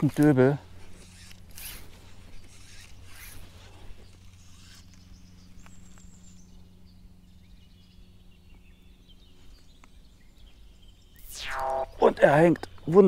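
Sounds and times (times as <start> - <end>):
steady low hum: 0.0 - 13.0
faint bird chirps: 2.1 - 12.9.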